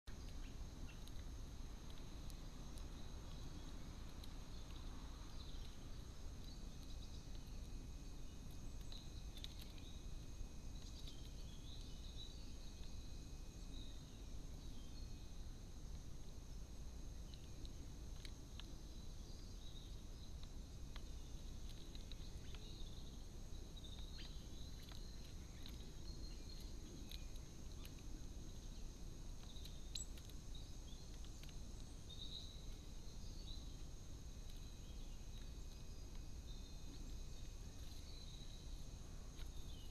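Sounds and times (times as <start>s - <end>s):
faint bird chirps: 0.1s - 16.2s, 17.0s - 39.9s
low rumble and hiss: 0.1s - 39.9s.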